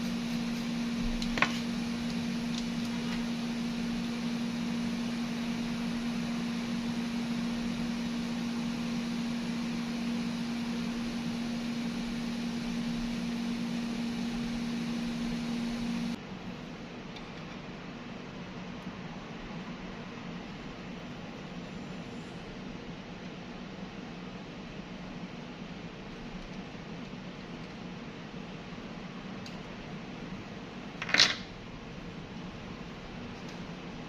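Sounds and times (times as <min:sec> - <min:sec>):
electrical hum with hiss: 0:00.0 - 0:34.0.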